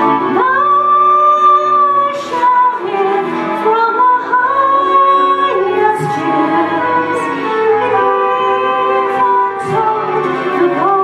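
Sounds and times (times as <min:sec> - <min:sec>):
instrumental accompaniment: 0:00.0 - 0:11.0
woman singing into microphone: 0:00.0 - 0:11.0.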